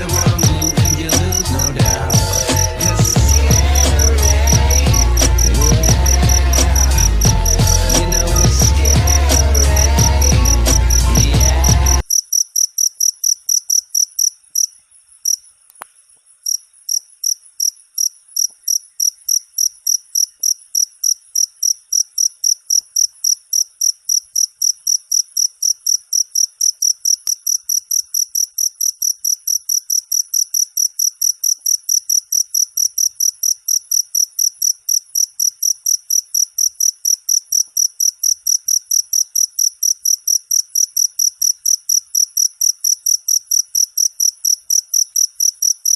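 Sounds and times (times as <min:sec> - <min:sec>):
cricket chirping: 0:00.0 - 0:45.9.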